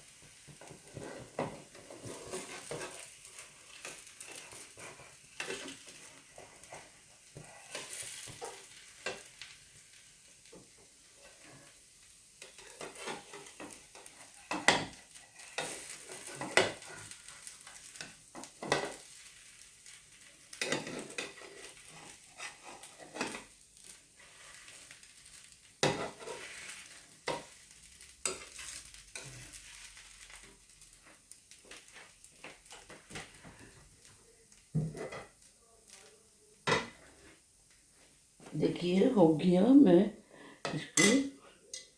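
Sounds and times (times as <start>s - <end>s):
batter sizzling in oil: 0.0s - 41.9s
spatula scraping a pan: 0.1s - 33.8s, 34.7s - 36.1s, 40.6s - 41.9s.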